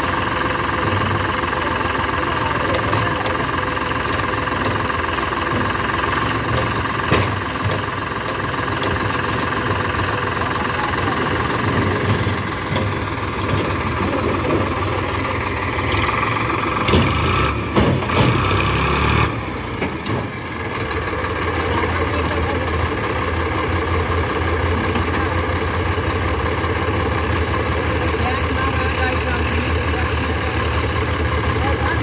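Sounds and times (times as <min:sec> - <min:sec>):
tractor diesel engine clattering: 0:00.0 - 0:32.0.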